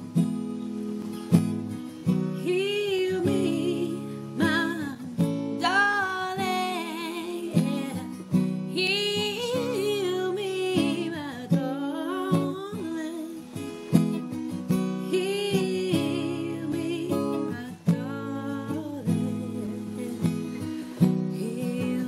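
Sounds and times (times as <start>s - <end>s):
acoustic guitar strumming: 0.0s - 22.0s
woman singing: 2.0s - 22.0s.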